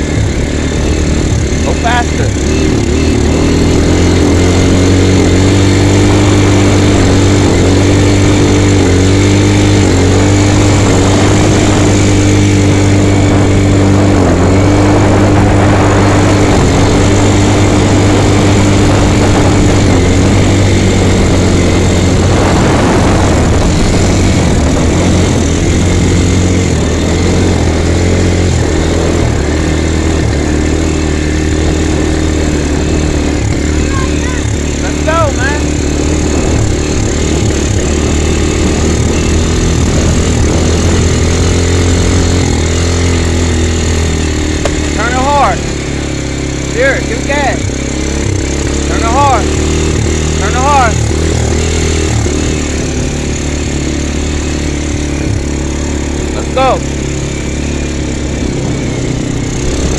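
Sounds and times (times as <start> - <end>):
quad bike engine droning: 0.0 - 59.9.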